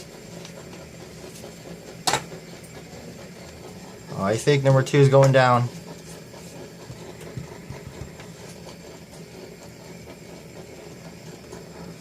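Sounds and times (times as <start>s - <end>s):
fidget spinners whirring: 0.0s - 12.0s.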